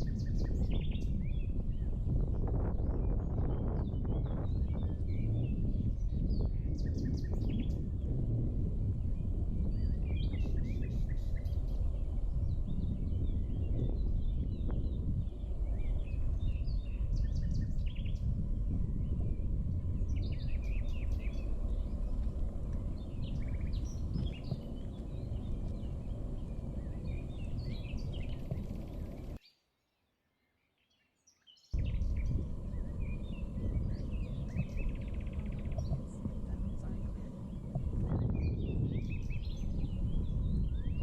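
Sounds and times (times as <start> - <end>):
low outdoor rumble: 0.0 - 29.4, 31.8 - 41.0
small birds chirping: 0.0 - 41.0.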